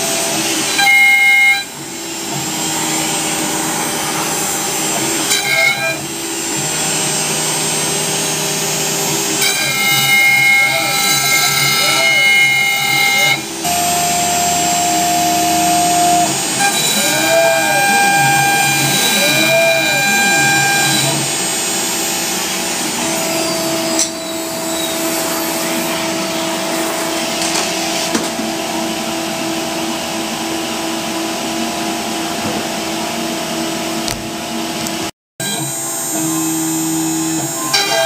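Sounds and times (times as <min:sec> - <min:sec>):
cnc router spindle whine: 0:00.0 - 0:38.0.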